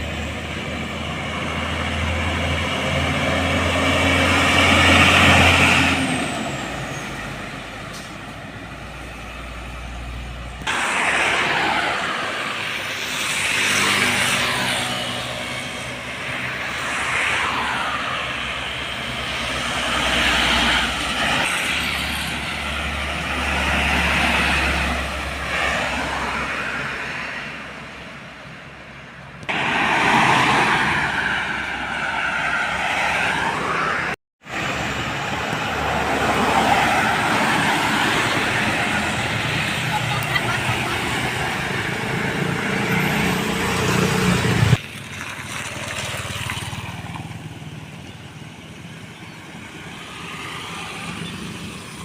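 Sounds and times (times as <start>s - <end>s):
heavy trucks driving: 0.0s - 52.0s.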